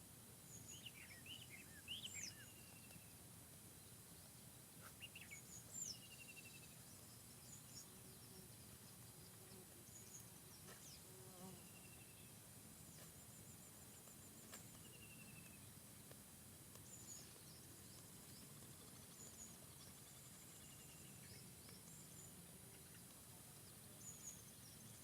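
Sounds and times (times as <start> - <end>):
low background hiss: 0.0 - 25.0
small birds chirping: 0.3 - 25.0.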